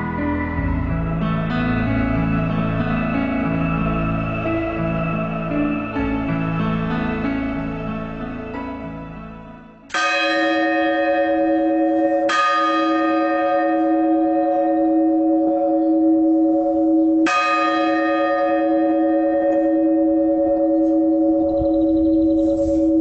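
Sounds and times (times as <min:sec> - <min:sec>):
church bell ringing: 0:00.0 - 0:23.0.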